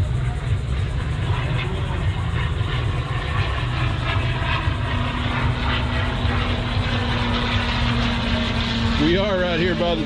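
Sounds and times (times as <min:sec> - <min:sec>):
low rumble: 0:00.0 - 0:10.0
propeller airplane engine droning: 0:00.0 - 0:10.0.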